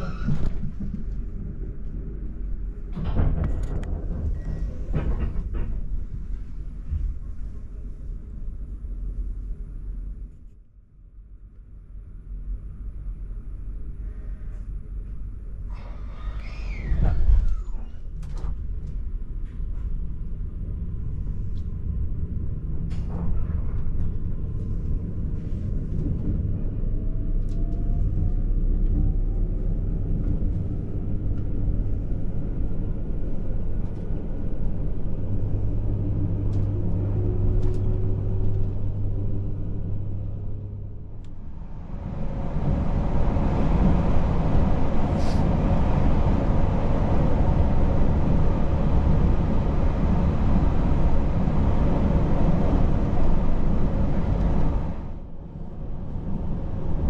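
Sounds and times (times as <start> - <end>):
train wheels rumbling on rail: 0.0 - 10.3, 12.6 - 57.0.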